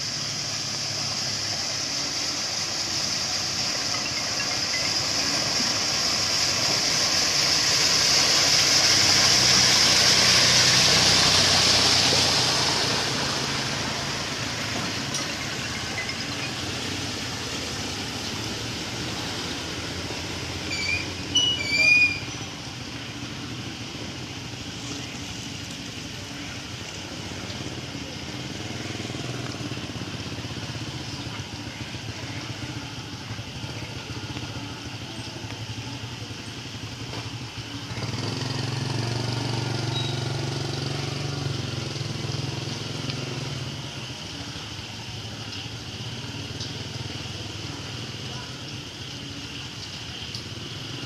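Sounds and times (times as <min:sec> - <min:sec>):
heavy rain on a street: 0:00.0 - 0:51.0
vehicle engine hum: 0:00.0 - 0:51.0.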